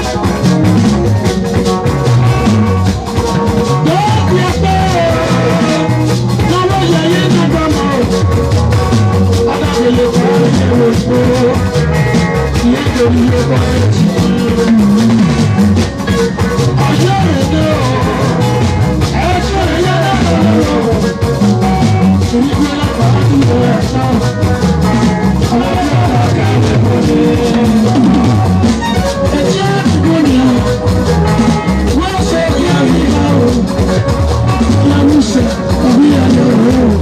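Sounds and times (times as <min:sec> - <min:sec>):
drum kit: 0:00.0 - 0:37.0
electric guitar: 0:00.0 - 0:37.0
live band playing dance music: 0:00.0 - 0:37.0.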